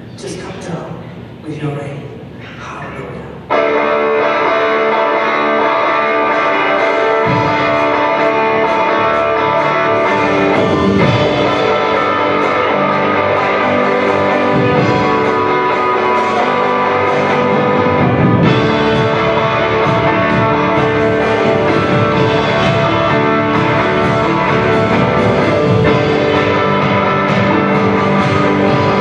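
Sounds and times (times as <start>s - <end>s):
electric guitar: 3.3s - 29.0s
band playing instrumental: 3.4s - 29.0s
bass guitar: 3.4s - 29.0s.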